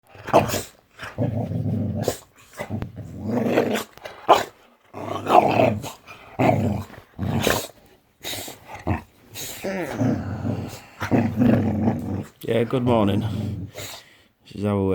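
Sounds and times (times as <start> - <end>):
dog growling: 0.0 - 14.1.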